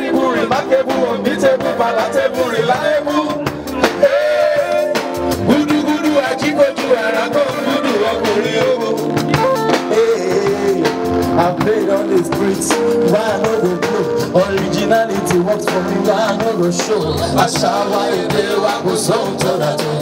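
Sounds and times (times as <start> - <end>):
keyboard chords: 0.0 - 20.0
steady drum beat: 0.0 - 20.0.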